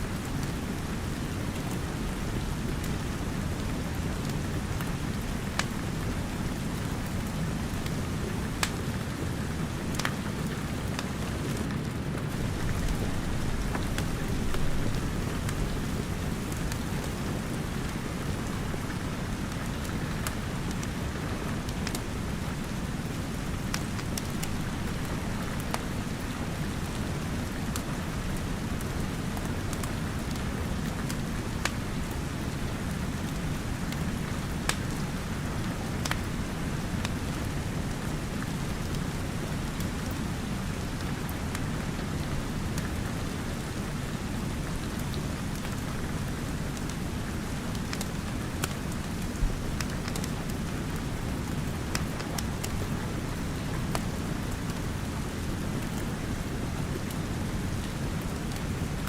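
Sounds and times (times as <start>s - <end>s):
steady rain falling: 0.0s - 59.0s
wood fire crackling: 0.1s - 59.0s.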